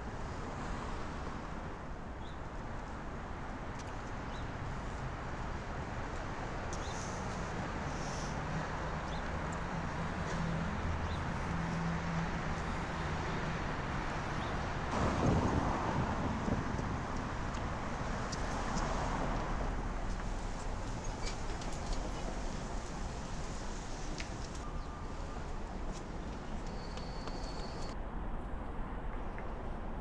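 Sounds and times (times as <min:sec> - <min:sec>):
traffic noise: 0:00.0 - 0:30.0.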